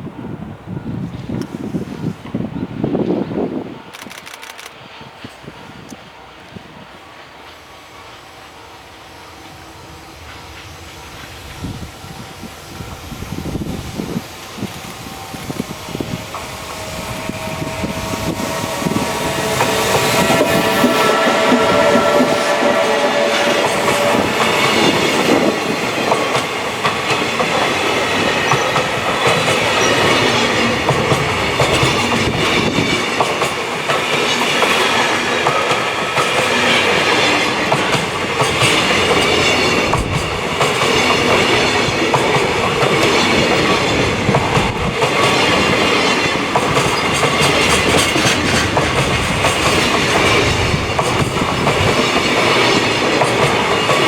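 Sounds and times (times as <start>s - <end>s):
train wheels clacking over rails: 9.4s - 54.0s.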